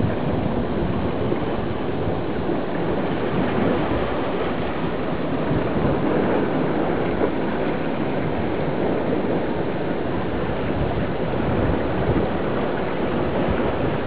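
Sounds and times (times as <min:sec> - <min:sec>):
underwater rushing surf: 0:00.0 - 0:14.0.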